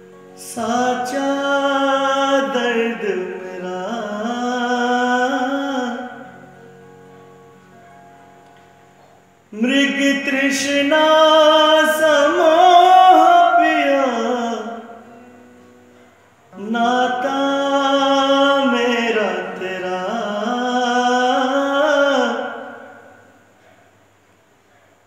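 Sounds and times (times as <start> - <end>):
man singing long notes: 0.0 - 7.2, 9.5 - 15.4, 16.0 - 23.8.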